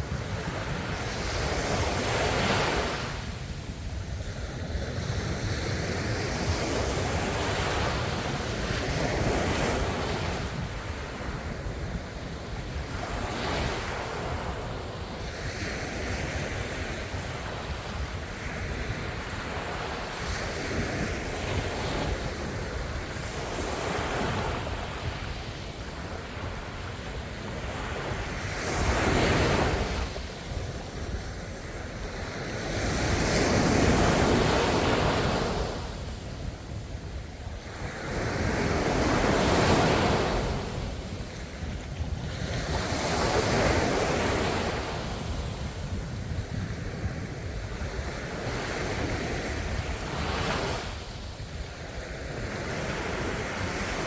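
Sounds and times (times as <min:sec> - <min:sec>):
ocean waves breaking on shore: 0:00.0 - 0:54.0
wind rumble on microphone: 0:00.0 - 0:54.0.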